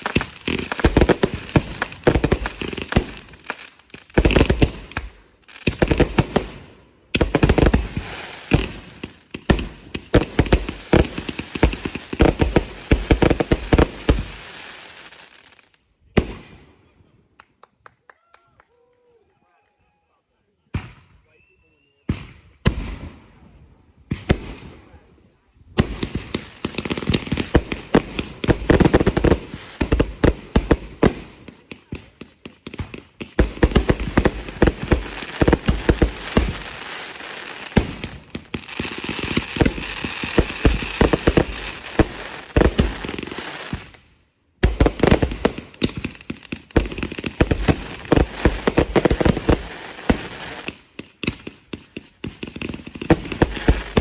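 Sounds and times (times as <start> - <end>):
fireworks bangs and crackles: 0.0 - 16.6, 24.0 - 25.0, 25.7 - 44.0, 44.6 - 54.0.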